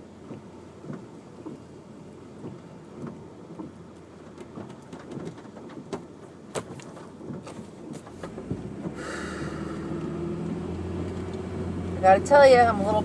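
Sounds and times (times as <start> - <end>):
low road rumble: 0.0 - 13.0
rain ticking on car: 0.0 - 13.0.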